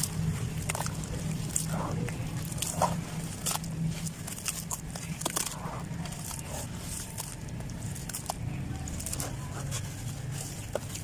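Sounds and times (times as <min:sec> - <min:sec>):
dirt clumps crumbling: 0:00.0 - 0:11.0
steady low hum: 0:00.0 - 0:11.0.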